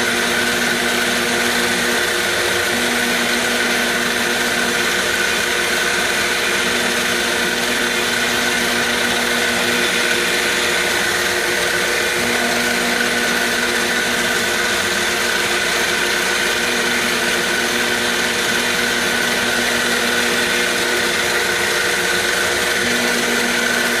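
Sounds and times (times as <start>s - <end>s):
machine spindle and cutter noise: 0.0s - 24.0s.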